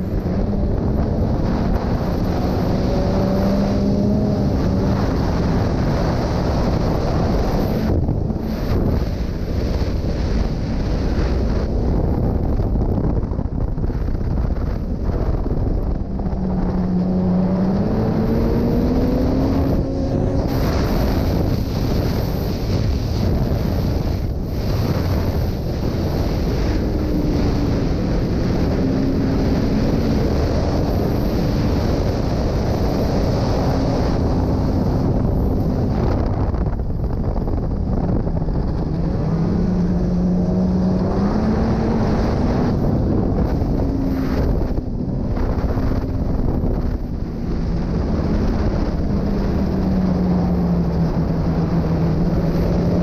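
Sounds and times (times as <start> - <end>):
snowmobile engine accelerating: 0.0 - 53.0
wind buffeting microphone: 0.0 - 53.0.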